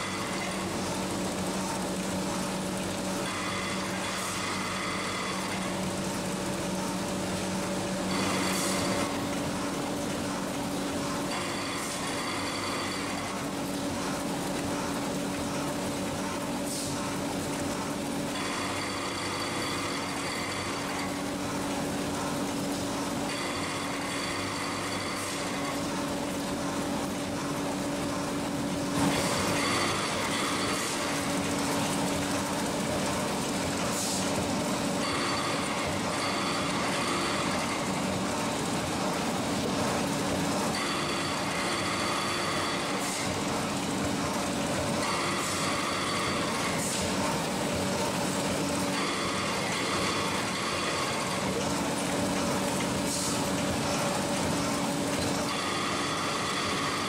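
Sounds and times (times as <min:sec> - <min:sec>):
high machine whine: 0:00.0 - 0:57.0
packing machine hum: 0:00.0 - 0:57.0.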